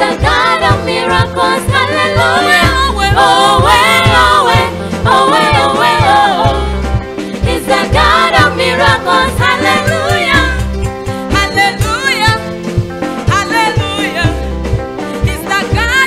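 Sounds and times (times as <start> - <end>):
woman singing into a microphone: 0.0 - 6.8, 7.4 - 10.7, 11.3 - 12.4, 13.3 - 14.4, 15.1 - 16.0
instrumental backing with bass beat: 0.0 - 16.0.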